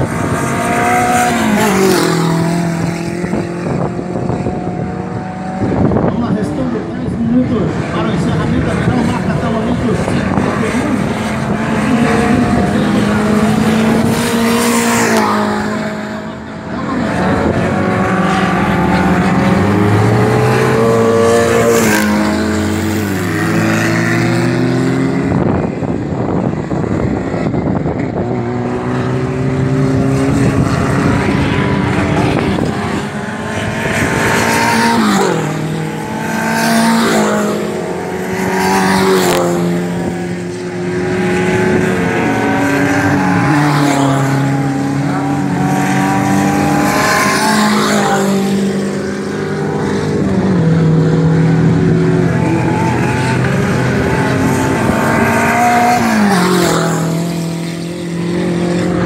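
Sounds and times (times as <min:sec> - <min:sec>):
race car engines at full throttle: 0:00.0 - 0:59.0.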